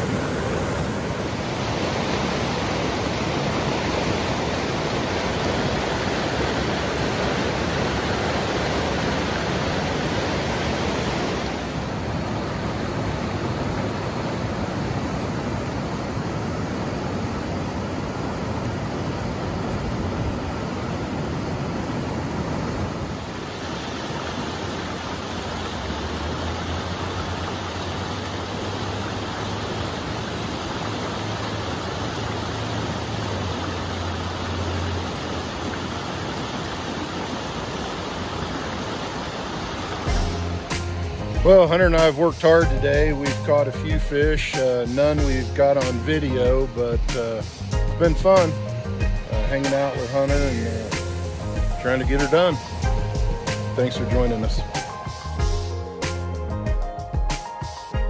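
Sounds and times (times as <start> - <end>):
water rushing over rocks: 0.0 - 55.4.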